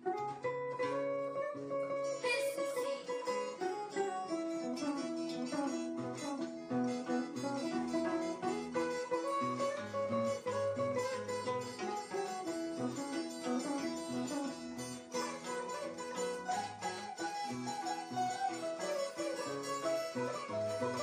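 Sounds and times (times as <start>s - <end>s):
harp and guitar playing: 0.8s - 21.0s.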